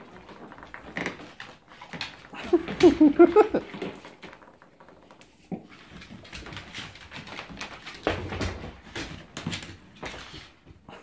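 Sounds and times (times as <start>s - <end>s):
dog steps on wooden floor: 0.0s - 11.0s.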